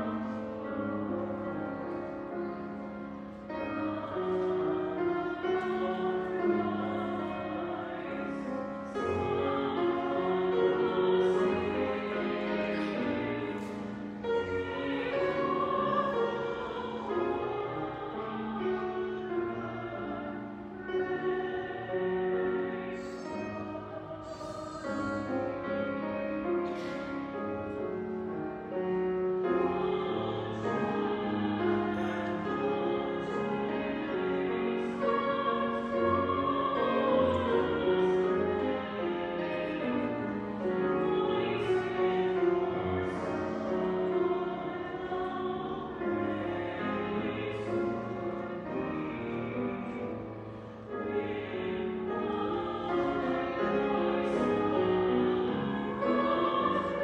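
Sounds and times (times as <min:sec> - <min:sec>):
choir singing held notes: 0:00.0 - 0:57.0.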